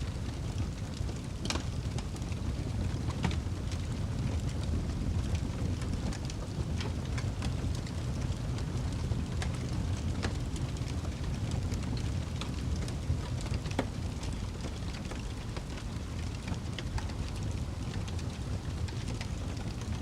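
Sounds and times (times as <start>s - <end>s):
burning logs crackling and popping: 0.0s - 20.0s
fire rumbling: 0.0s - 20.0s.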